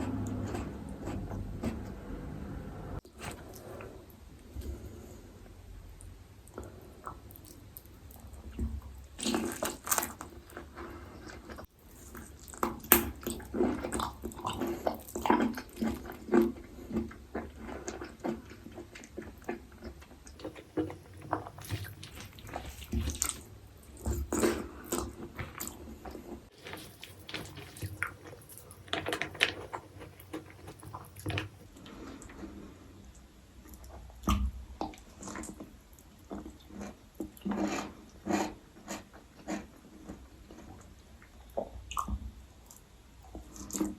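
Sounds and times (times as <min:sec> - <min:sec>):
person chewing with wet mouth sounds: 0:00.0 - 0:02.3, 0:03.0 - 0:43.9.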